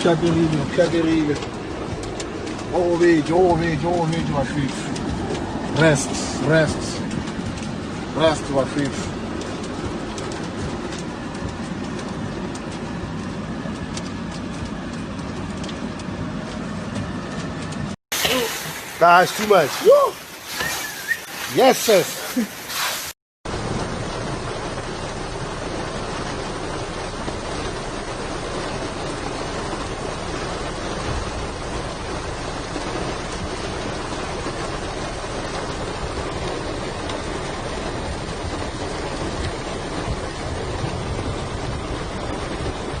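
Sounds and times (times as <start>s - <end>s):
heavy downpour hiss: 0.0s - 14.9s, 18.1s - 43.0s.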